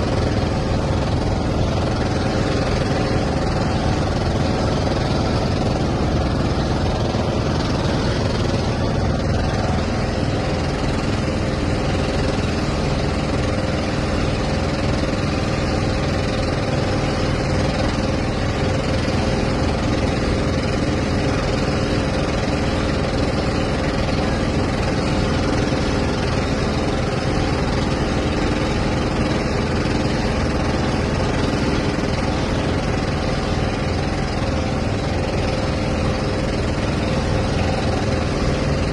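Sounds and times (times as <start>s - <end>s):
motor engine running: 0.0s - 38.9s.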